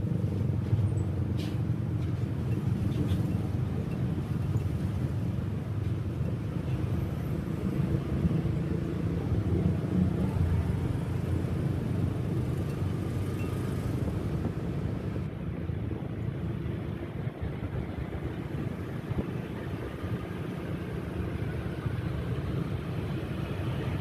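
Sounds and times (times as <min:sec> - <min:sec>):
motorcycle engine rumble: 0:00.0 - 0:24.0
road noise: 0:00.0 - 0:24.0.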